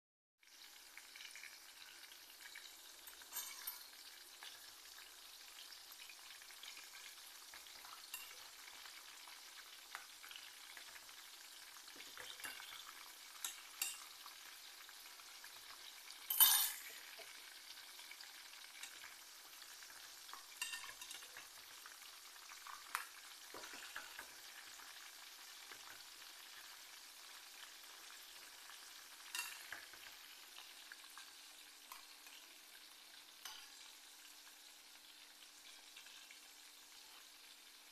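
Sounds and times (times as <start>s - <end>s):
deep-frying oil sizzling: 0.4s - 37.9s
spoon turning food in oil: 0.6s - 37.4s.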